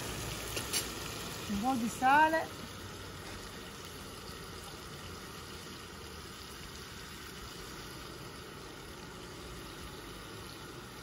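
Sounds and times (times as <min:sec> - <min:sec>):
sauce sizzling in pans: 0:00.0 - 0:11.0.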